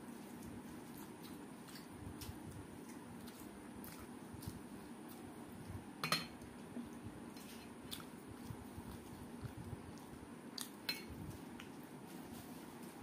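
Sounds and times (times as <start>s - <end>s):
person chewing: 0.2s - 5.8s, 6.4s - 11.9s.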